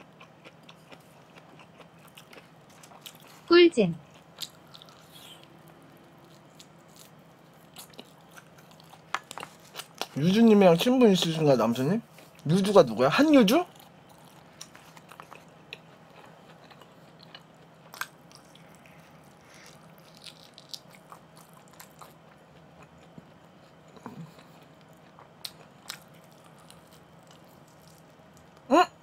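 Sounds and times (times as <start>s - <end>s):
chewing and biting: 0.0s - 11.4s, 13.7s - 28.6s.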